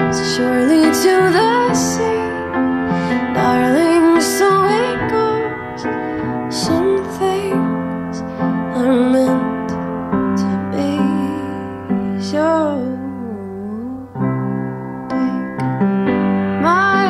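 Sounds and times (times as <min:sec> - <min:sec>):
slow song with piano and singing: 0:00.0 - 0:17.0.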